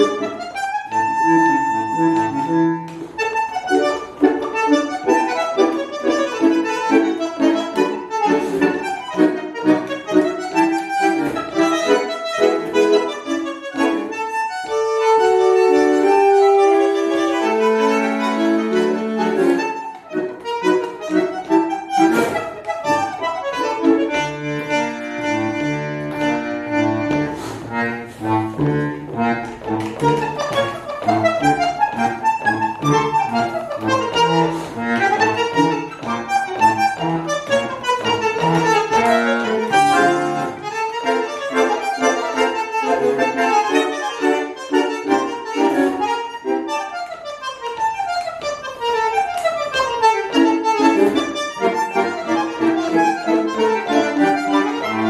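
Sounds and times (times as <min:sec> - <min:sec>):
bandoneon melody: 0:00.0 - 0:55.0.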